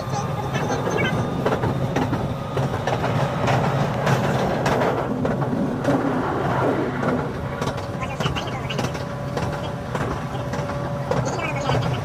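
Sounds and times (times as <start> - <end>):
train rumbling on rails: 0.0 - 12.0
wheels clicking on track: 0.0 - 12.0.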